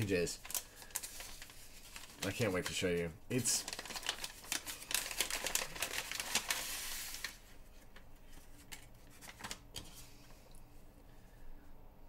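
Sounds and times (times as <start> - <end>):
paper rustling: 0.0 - 10.4.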